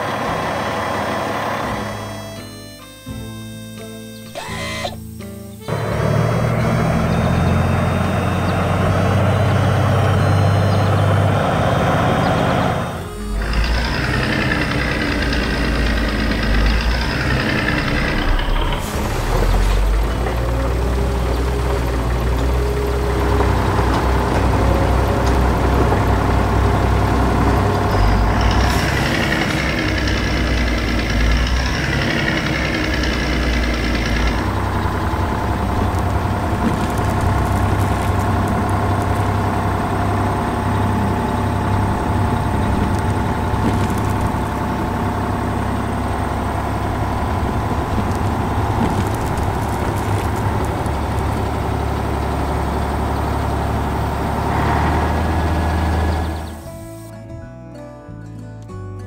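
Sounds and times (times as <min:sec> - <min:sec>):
heavy machine engine running: 0:00.0 - 0:57.1.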